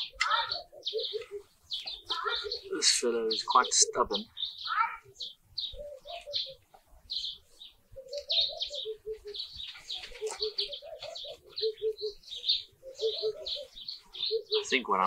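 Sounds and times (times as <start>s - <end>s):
bird cooing notes: 0.0s - 2.9s, 3.6s - 6.7s, 7.9s - 14.8s
high bird chirps: 0.0s - 15.0s.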